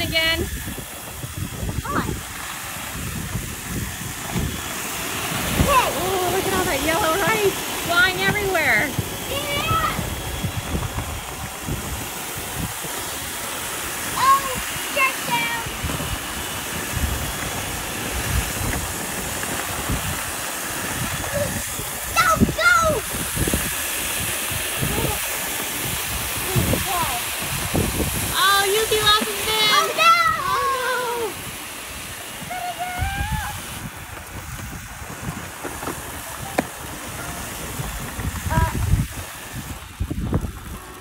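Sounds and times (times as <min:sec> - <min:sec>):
robot vacuums whirring: 0:00.0 - 0:41.0
wind rumbling on microphone: 0:00.0 - 0:41.0.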